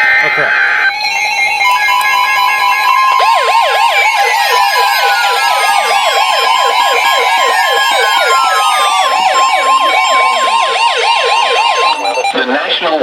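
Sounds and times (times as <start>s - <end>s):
slow falling tones: 0.0s - 12.4s
steady alert tone: 0.0s - 12.5s
fast yelping siren alarm: 0.0s - 12.7s.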